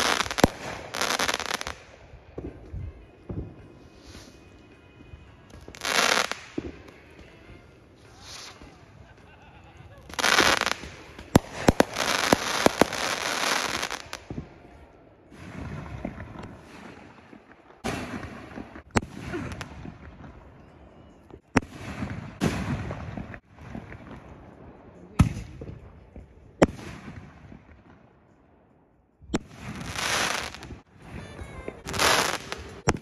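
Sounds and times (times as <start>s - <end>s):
fireworks bangs: 0.0s - 9.2s, 10.0s - 28.0s, 29.3s - 33.0s
fireworks crackling: 0.0s - 20.7s, 21.4s - 27.8s, 29.3s - 33.0s.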